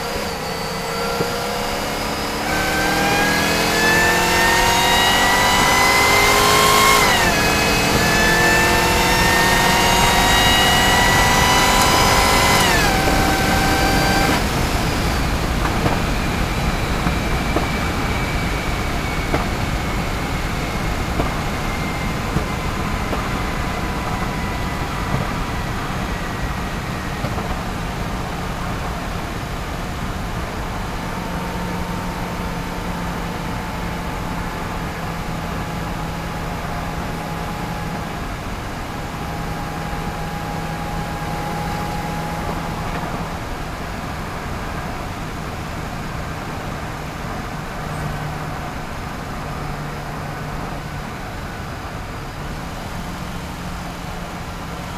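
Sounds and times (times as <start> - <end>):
car engine at moderate revs: 0.0 - 54.9.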